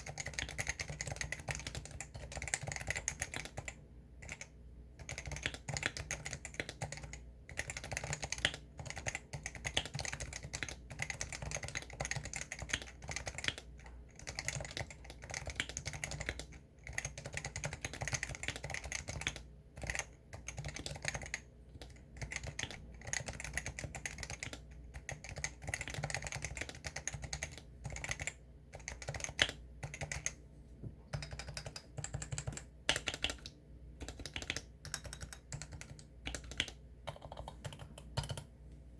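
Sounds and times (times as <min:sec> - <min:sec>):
fast keyboard typing: 0:00.0 - 0:30.4, 0:31.1 - 0:38.5.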